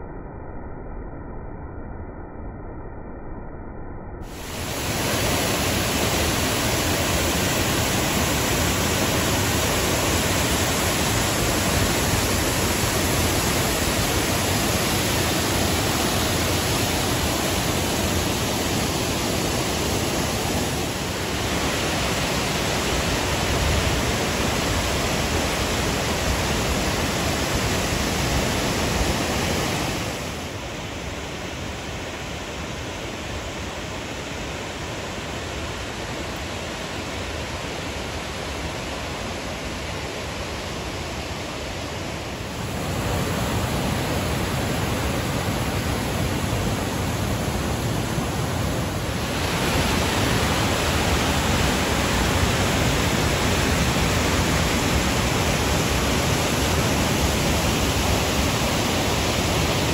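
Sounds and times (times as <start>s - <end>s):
waterfall rushing over ledges: 4.2s - 59.9s.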